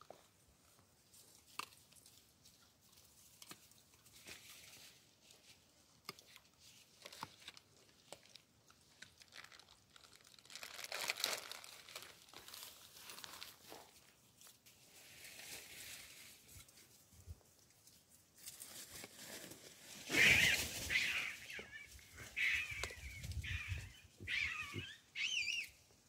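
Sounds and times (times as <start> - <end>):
crackles and rustling: 0.0 - 24.6.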